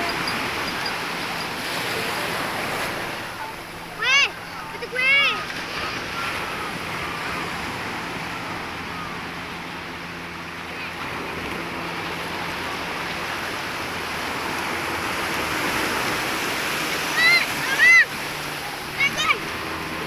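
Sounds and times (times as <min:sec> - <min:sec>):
waves and surf rushing: 0:00.0 - 0:20.0.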